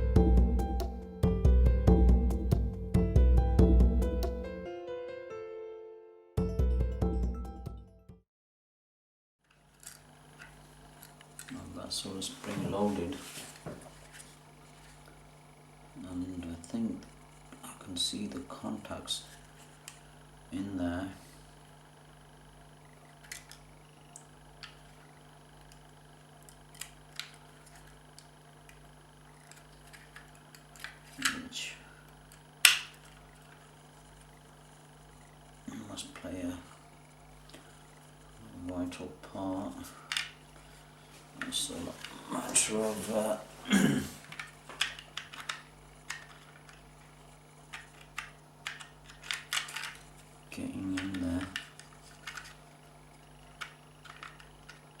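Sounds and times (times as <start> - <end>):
steady low hum: 0.0 - 4.6, 9.5 - 55.0.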